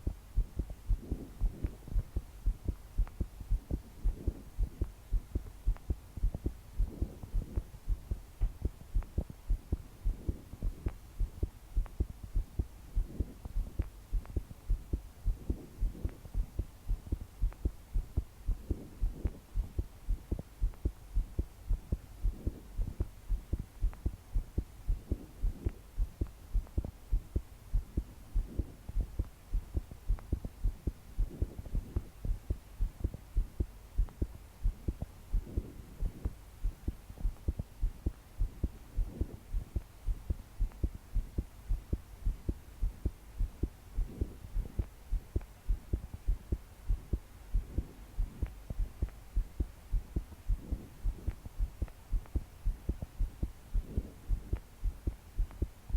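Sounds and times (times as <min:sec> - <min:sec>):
heart beating fast: 0:00.0 - 0:55.9.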